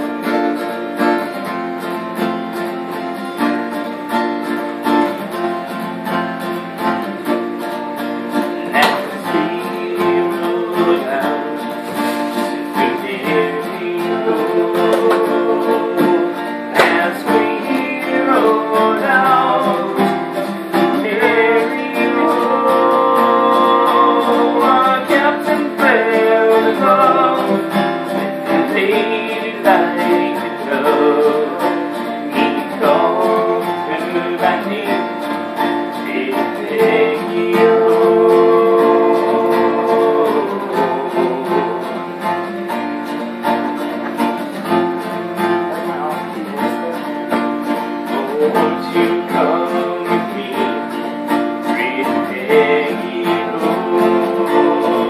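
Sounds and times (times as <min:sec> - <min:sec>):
acoustic guitar strumming: 0:00.0 - 0:55.0
person singing: 0:08.2 - 0:42.7, 0:43.8 - 0:55.0.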